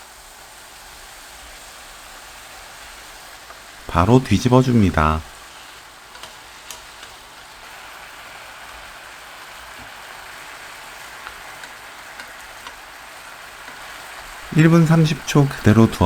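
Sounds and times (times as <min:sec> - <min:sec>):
mushrooms sizzling in a frying pan: 0:00.0 - 0:04.5, 0:05.4 - 0:15.6.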